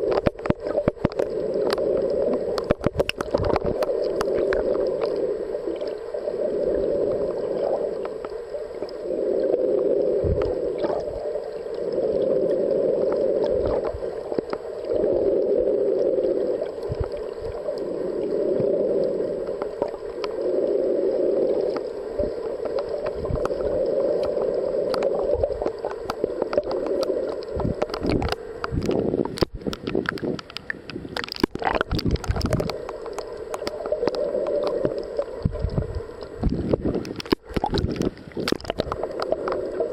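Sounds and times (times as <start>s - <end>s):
muffled underwater water noise: 0.0s - 39.9s.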